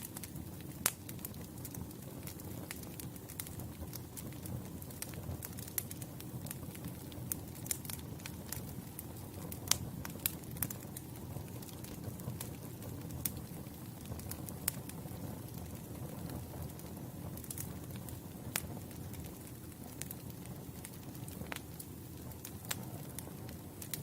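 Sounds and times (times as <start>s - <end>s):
burning wood popping and crackling: 0.0s - 24.0s
campfire flames rumbling: 0.0s - 24.0s.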